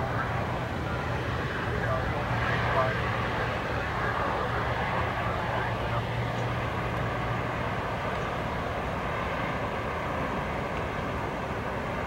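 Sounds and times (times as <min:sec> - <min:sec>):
low engine hum: 0:00.0 - 0:12.0
rumble of highway traffic: 0:00.0 - 0:12.0.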